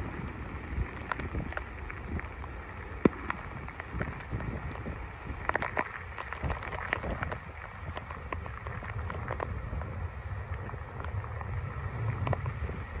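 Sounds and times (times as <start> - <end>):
rain falling: 0.0 - 13.0
raindrops ticking: 0.0 - 13.0
wind buffeting microphone: 0.0 - 13.0.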